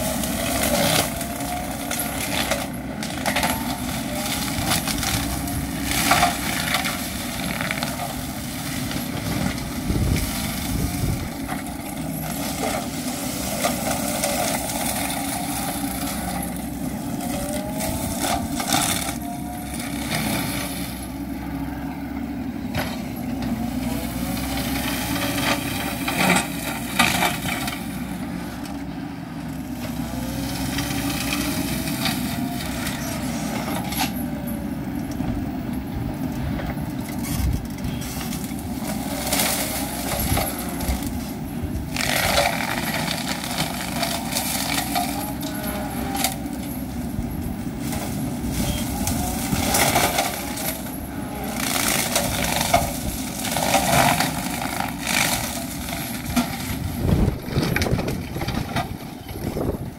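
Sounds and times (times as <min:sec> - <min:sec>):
mulcher crackling and snapping brush: 0:00.0 - 0:21.2, 0:22.6 - 0:34.4, 0:35.0 - 0:59.9
diesel engine running under load: 0:00.0 - 0:59.9.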